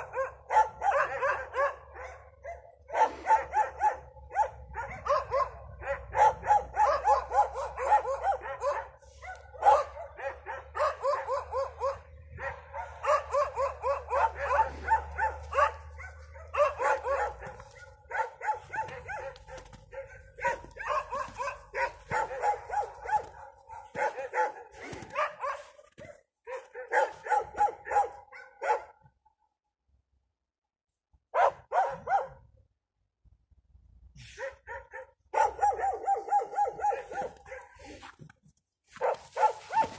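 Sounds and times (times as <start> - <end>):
dogs barking: 0.0 - 29.1, 31.3 - 32.5, 34.2 - 38.2, 38.9 - 39.9.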